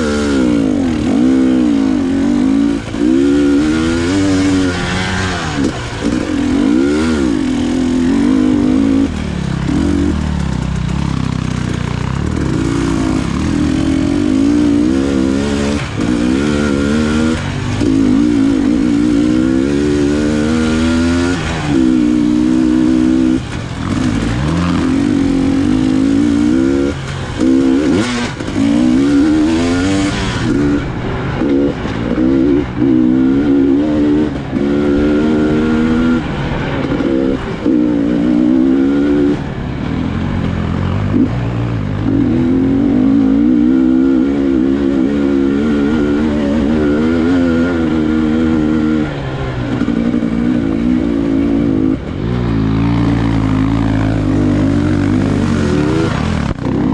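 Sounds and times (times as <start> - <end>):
motorcycle engine revving: 0.0 - 56.9
rushes of noise: 0.0 - 56.9.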